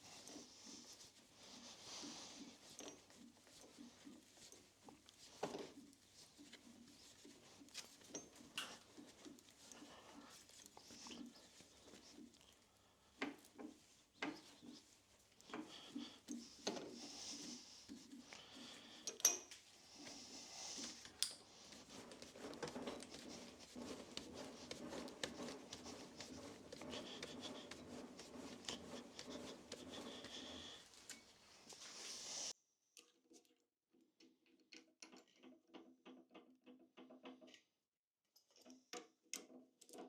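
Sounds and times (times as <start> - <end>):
steady scraping rub: 0.0 - 32.5.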